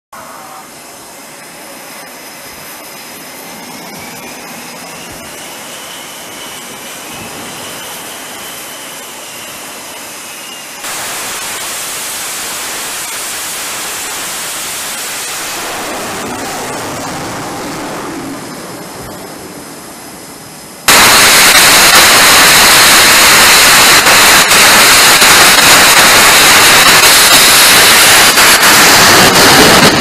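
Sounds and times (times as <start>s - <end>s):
jet engines rushing hiss: 0.2s - 30.0s
turbine whine: 0.2s - 30.0s.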